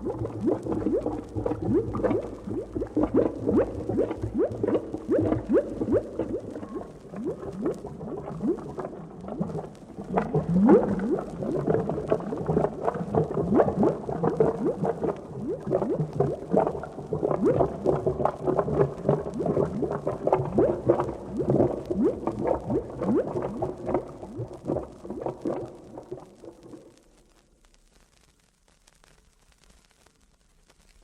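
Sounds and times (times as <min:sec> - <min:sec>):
thick liquid bubbling: 0:00.0 - 0:27.8.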